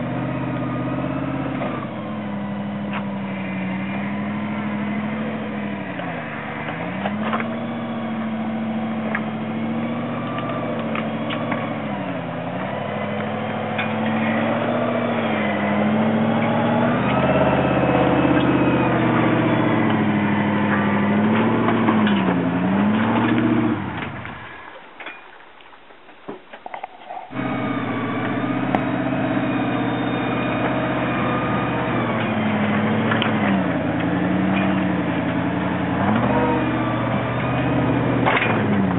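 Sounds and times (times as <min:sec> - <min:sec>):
engine running at low revs: 0:00.0 - 0:24.8, 0:26.7 - 0:38.9.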